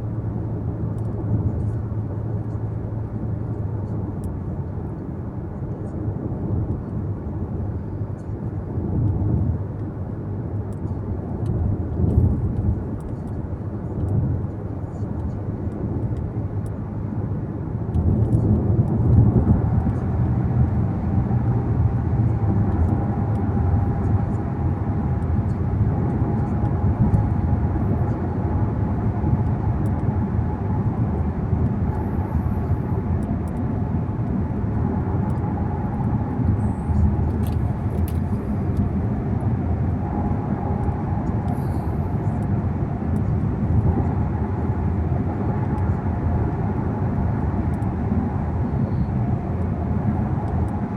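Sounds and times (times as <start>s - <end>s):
car tyres and engine rumbling: 0.0s - 50.9s.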